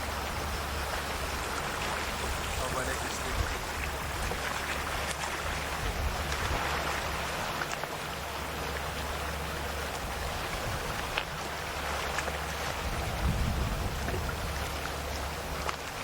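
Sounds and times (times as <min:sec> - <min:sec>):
sea waves lapping at shore: 0:00.0 - 0:16.0
small water splashes: 0:00.0 - 0:16.0.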